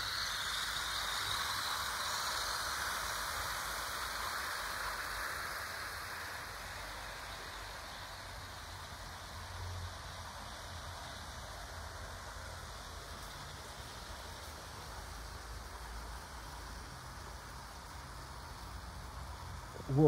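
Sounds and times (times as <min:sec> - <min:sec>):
model train wheels hissing on rail: 0:00.0 - 0:20.0.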